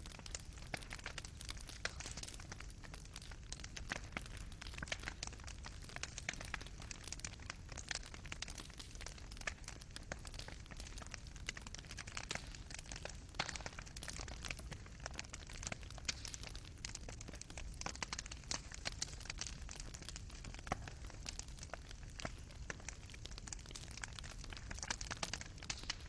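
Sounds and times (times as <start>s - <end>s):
fireplace fire crackling: 0.0s - 26.0s
low rumble of flames: 0.0s - 26.0s.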